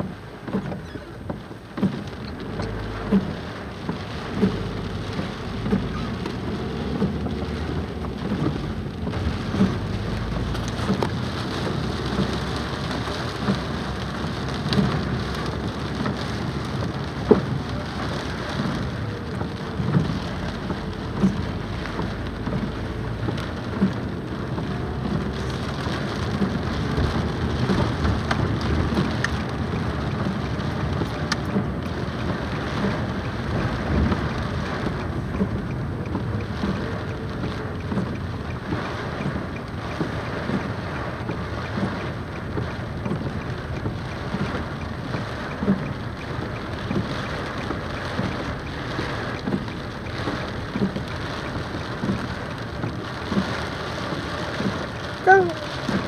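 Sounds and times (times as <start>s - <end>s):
raindrops tapping close by: 0.0s - 56.0s
steady rainfall: 0.0s - 56.0s.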